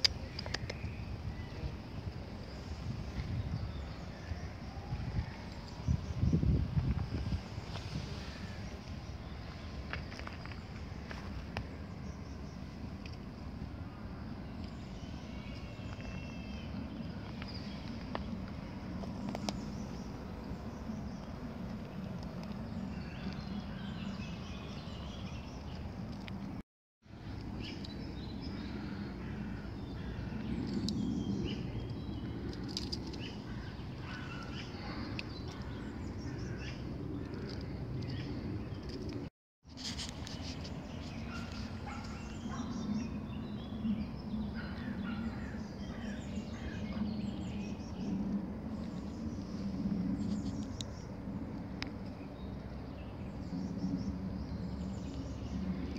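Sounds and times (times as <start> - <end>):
small birds chirping: 0.0 - 4.6, 5.2 - 26.6, 27.2 - 51.2.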